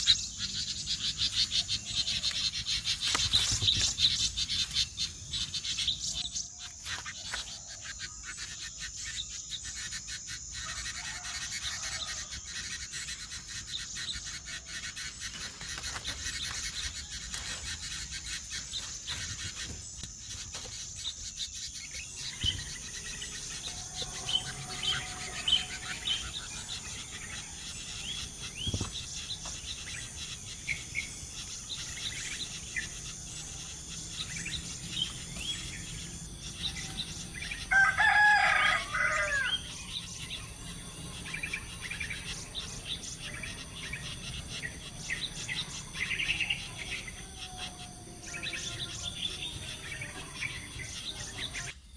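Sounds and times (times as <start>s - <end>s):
high insect buzz: 0.0s - 51.9s
small birds chirping: 0.0s - 51.9s.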